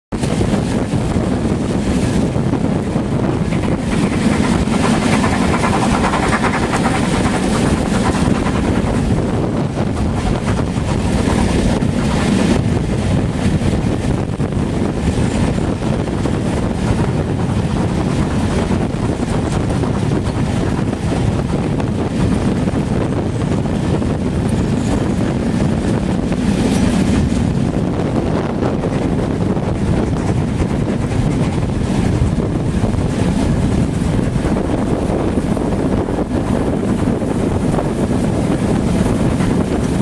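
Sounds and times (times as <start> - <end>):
train running noise: 0.1 - 40.0
wind buffeting microphone: 0.1 - 40.0.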